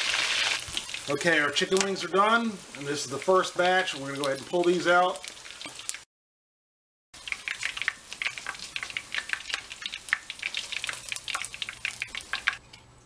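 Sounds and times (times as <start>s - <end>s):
chicken wings deep-frying in oil: 0.0s - 6.1s, 7.2s - 13.0s.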